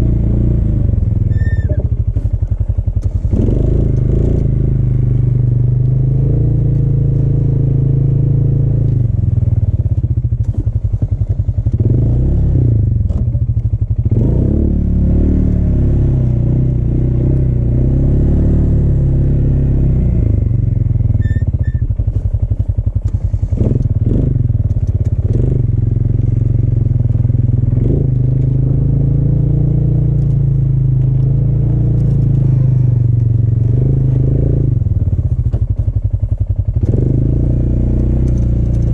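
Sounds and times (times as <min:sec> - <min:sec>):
atv engine under load: 0:00.0 - 0:38.9.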